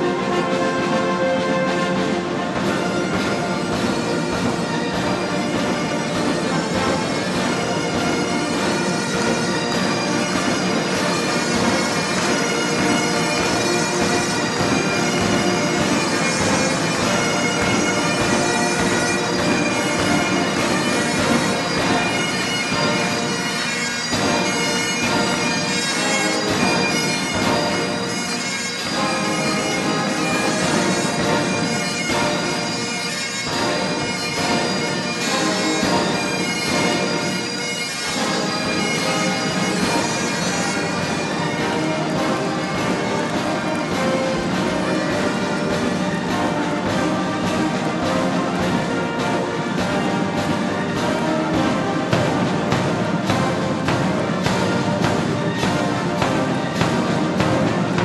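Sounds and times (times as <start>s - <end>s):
bagpipes: 0.0s - 58.0s
pipe and drum bands playing march: 0.0s - 58.0s.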